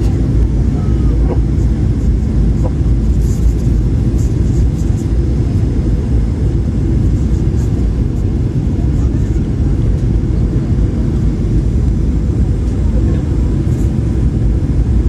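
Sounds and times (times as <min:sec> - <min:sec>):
airliner engine rumble in cabin: 0:00.0 - 0:15.0.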